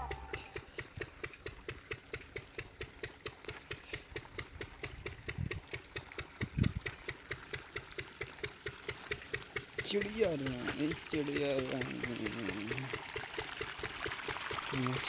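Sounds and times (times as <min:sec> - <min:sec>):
diesel engine knocking: 0:00.0 - 0:14.7.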